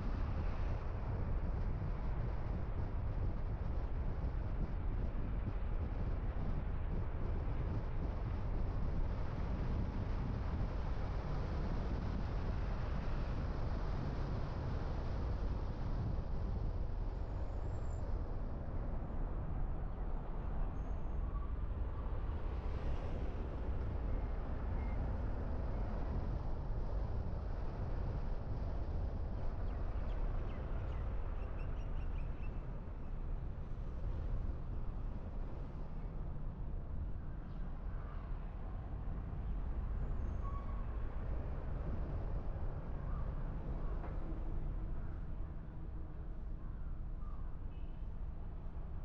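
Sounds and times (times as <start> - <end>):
car engine and tyre road noise: 0.0 - 49.0.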